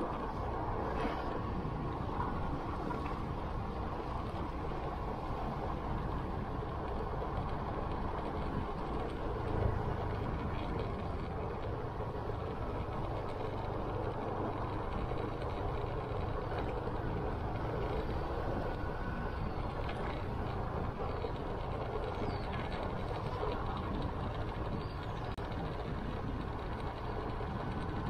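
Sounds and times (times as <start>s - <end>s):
motorcycle engine hum: 0.0s - 28.0s
wind and tyre noise: 0.0s - 28.0s.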